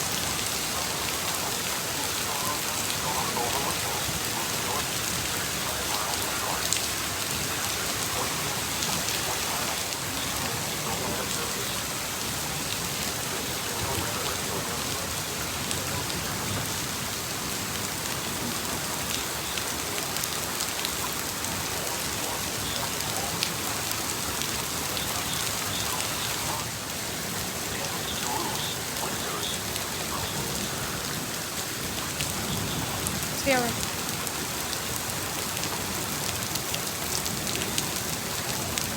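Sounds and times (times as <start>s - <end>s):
rain falling steadily: 0.0s - 38.9s.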